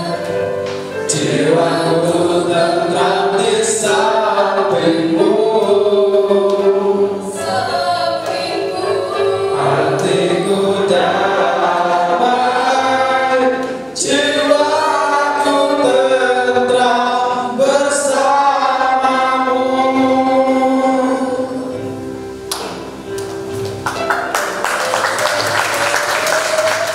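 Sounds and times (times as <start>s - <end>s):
group of voices singing: 0.0s - 22.0s.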